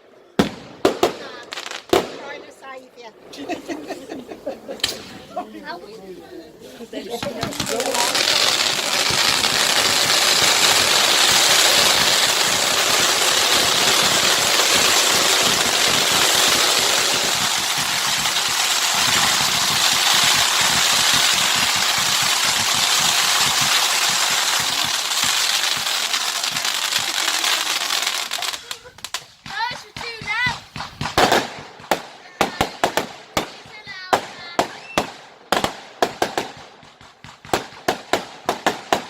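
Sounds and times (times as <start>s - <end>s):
fireworks hissing and crackling: 0.0s - 39.0s.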